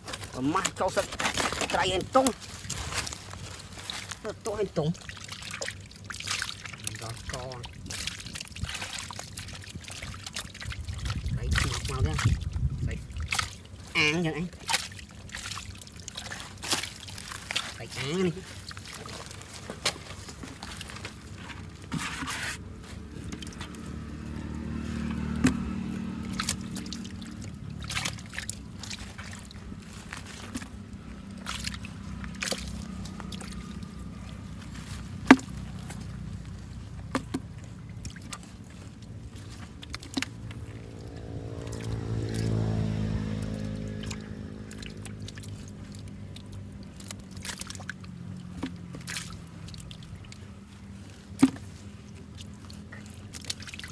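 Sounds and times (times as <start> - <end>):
hand sloshing in muddy water: 0.0 - 53.9
sharp splashes: 0.0 - 53.9
motor engine humming: 9.4 - 53.6.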